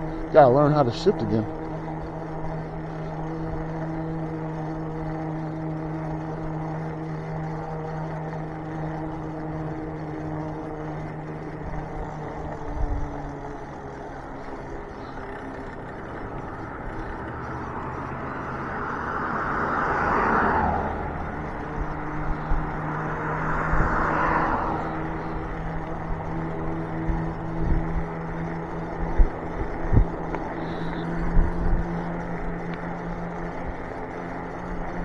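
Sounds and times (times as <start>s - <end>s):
electric hub motor humming: 0.0s - 35.0s
vehicles passing: 0.0s - 35.0s.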